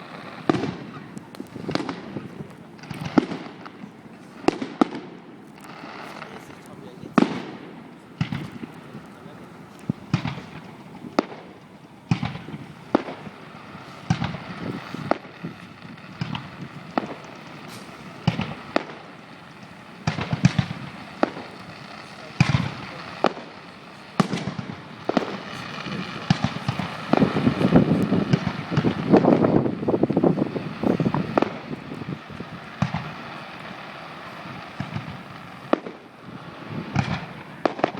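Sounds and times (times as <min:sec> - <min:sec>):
fireworks bursting with bangs: 0:00.0 - 0:37.9
fireworks crackling: 0:00.0 - 0:37.9.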